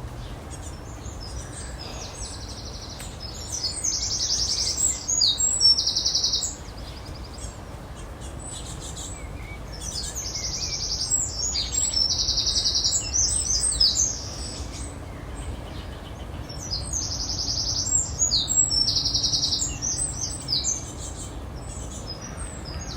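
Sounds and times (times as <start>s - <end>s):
steady background noise: 0.0s - 22.9s.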